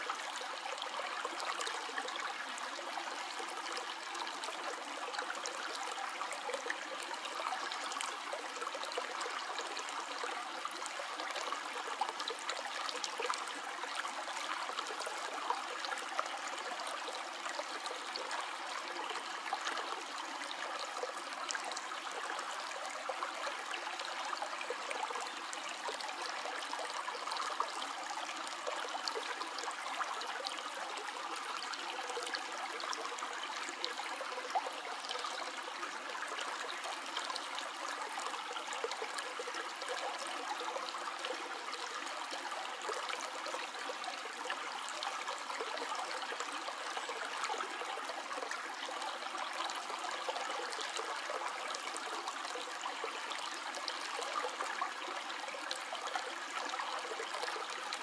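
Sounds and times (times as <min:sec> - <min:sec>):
stream trickling over rocks: 0:00.0 - 0:58.0.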